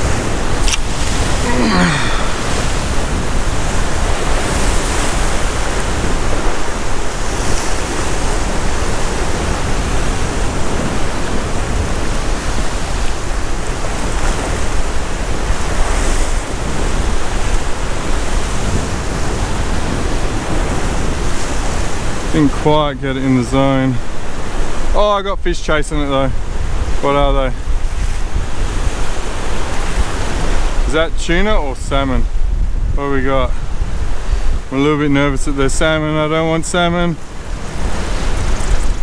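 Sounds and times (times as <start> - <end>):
surf breaking on rocks: 0.0 - 32.4
wind rumbling on microphone: 0.0 - 39.0.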